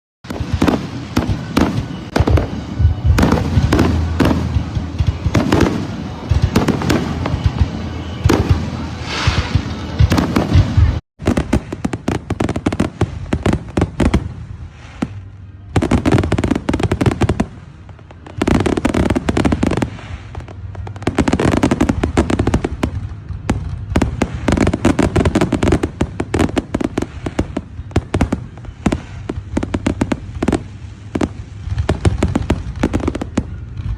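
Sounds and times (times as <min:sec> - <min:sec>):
fireworks bangs and crackling: 0:00.2 - 0:33.9.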